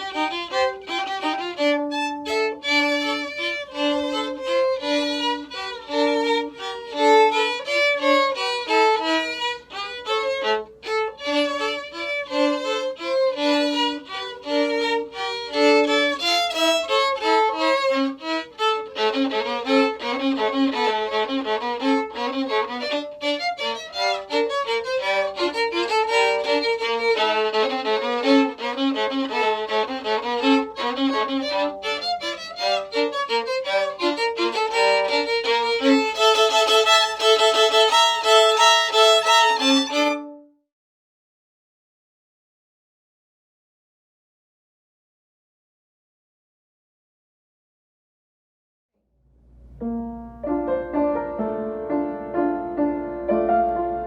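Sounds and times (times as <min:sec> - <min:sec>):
violin melody: 0:00.0 - 0:40.6, 0:49.8 - 0:54.0.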